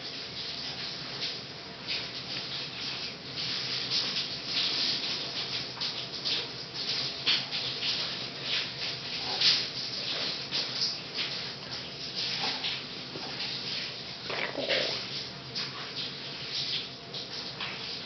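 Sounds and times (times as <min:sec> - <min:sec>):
shower running: 0:00.0 - 0:18.0.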